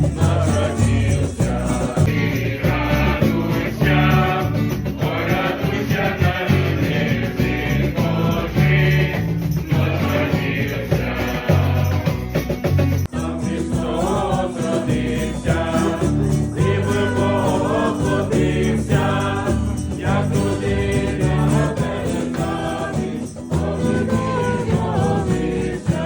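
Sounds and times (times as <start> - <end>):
instrumental accompaniment: 0.0 - 26.0
youth choir singing a carol: 0.0 - 26.0.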